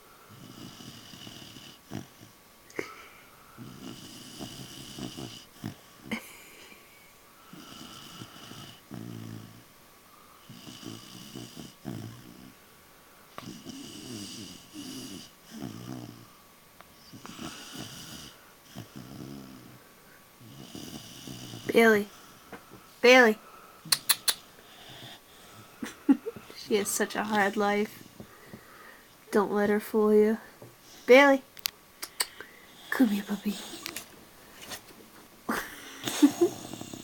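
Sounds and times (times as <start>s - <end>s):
puppy snoring: 0.2s - 12.6s, 13.4s - 16.4s, 17.0s - 31.4s, 32.1s - 34.8s, 35.5s - 37.0s.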